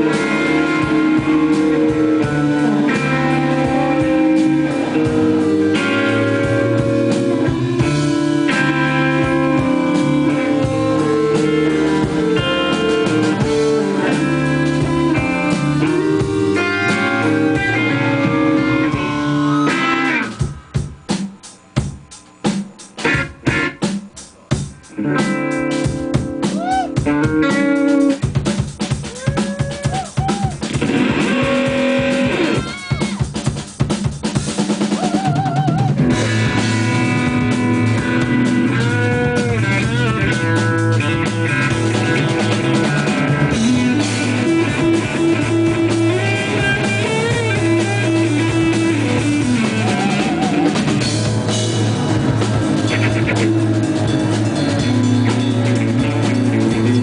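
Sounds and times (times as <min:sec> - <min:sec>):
live band with electric guitar: 0:00.0 - 0:57.0.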